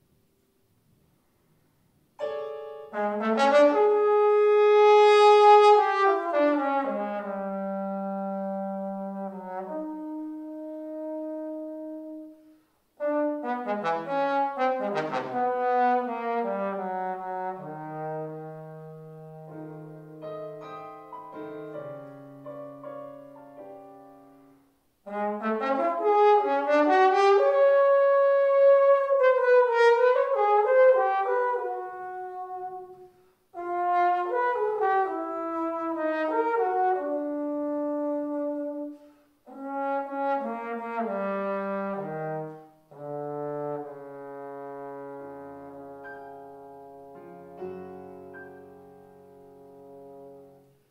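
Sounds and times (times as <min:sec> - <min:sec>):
solo trombone melody: 0:02.2 - 0:50.9.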